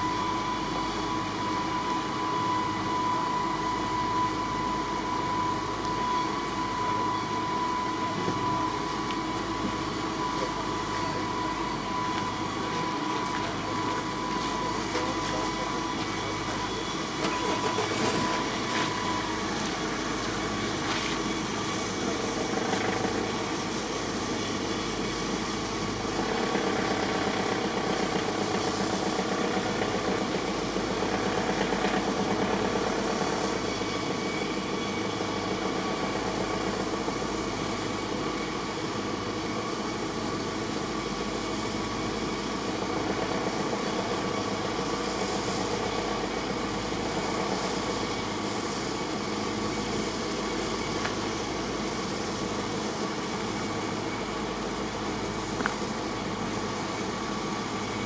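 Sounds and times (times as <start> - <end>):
low steady machine tones: 0.0 - 58.0
steady whine: 0.0 - 58.0.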